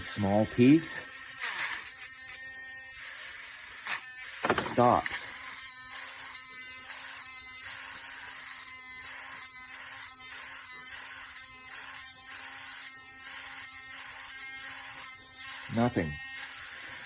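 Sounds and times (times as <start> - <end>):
rotary tool motor pulsing hum: 0.0 - 17.0.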